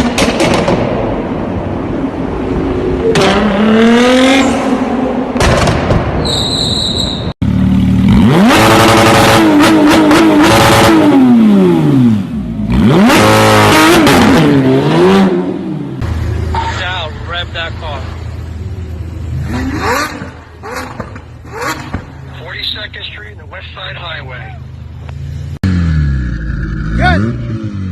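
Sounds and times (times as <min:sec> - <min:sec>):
car engine revving: 0:02.1 - 0:05.8, 0:07.4 - 0:16.5, 0:18.0 - 0:27.9.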